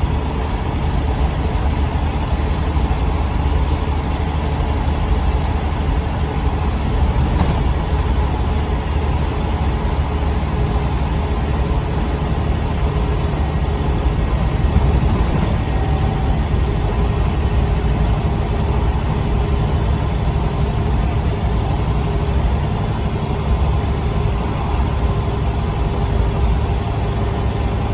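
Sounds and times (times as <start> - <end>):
bus engine and road rumble: 0.0 - 27.9.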